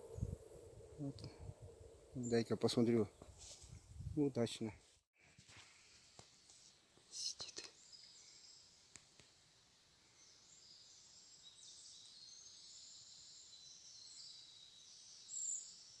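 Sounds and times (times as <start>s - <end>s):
small birds chirping: 0.0s - 4.7s, 6.4s - 16.0s.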